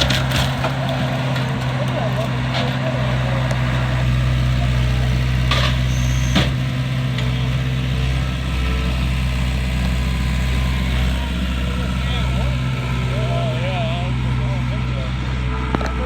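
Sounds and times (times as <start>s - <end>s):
machine engine running: 0.0s - 16.0s.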